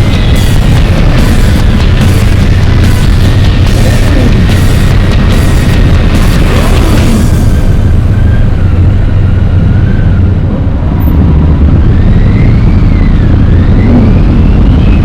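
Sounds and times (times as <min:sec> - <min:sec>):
faint whine: 0:00.0 - 0:15.0
motorcycle engines rumbling: 0:00.0 - 0:15.0.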